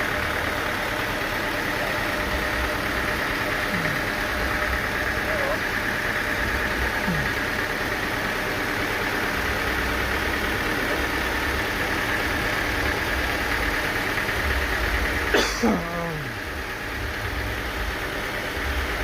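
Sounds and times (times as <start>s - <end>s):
sawmill engine running: 0.0s - 19.0s.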